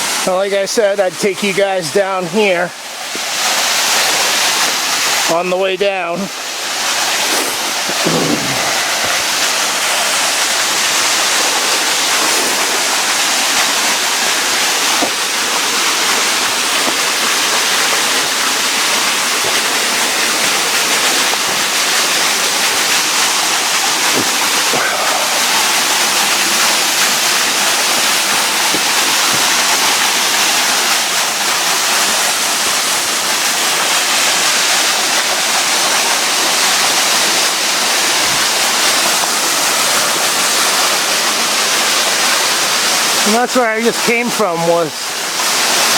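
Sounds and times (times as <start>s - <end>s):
waterfall rushing and splashing: 0.0s - 45.9s.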